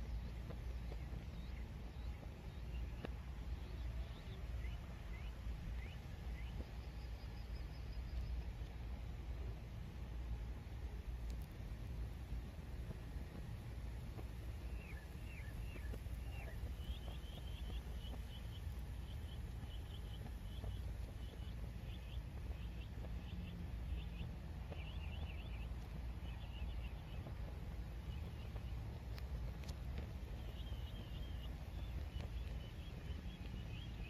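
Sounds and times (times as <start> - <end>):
low steady rumble: 0.0 - 34.0
small birds chirping: 0.0 - 34.0.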